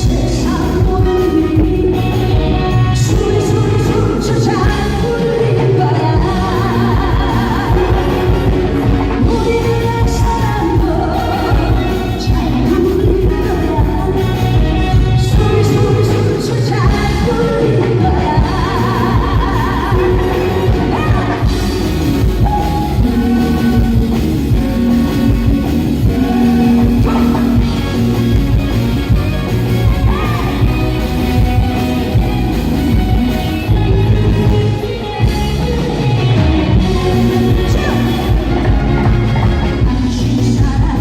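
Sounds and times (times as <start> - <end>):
person singing amplified: 0.0 - 28.1, 33.6 - 41.0
loud backing music: 0.0 - 41.0.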